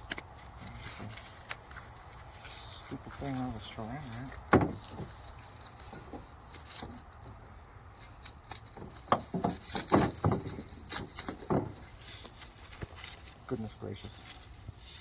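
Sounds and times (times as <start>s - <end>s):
knocks and scrapes of handled parts: 0.0s - 13.5s.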